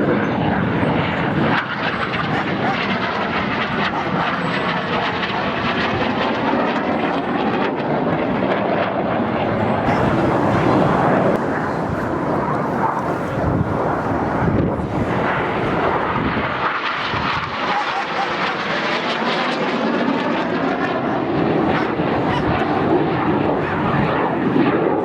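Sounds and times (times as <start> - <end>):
jet engines flying past: 0.0 - 25.0.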